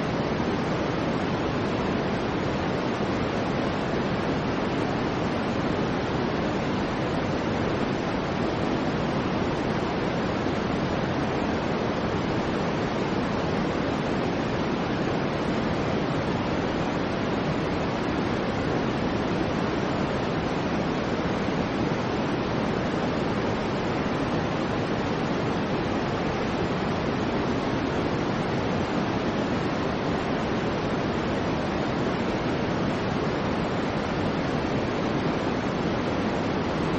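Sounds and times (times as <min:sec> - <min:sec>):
white noise hiss: 0:00.0 - 0:36.9.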